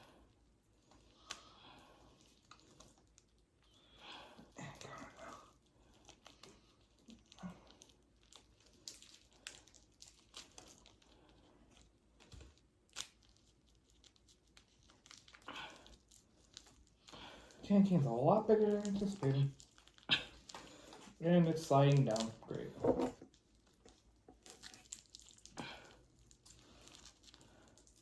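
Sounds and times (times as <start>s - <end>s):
plastic wrapper crinkling and tearing: 0.5s - 28.0s.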